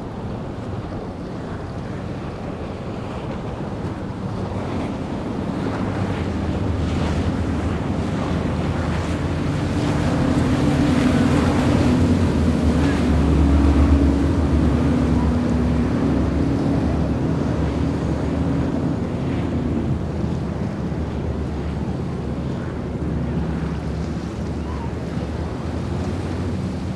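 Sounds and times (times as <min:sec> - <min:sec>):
boat engines droning: 0:00.0 - 0:26.9
hull rushing through water: 0:00.0 - 0:26.9
wind buffeting microphone: 0:00.0 - 0:26.9.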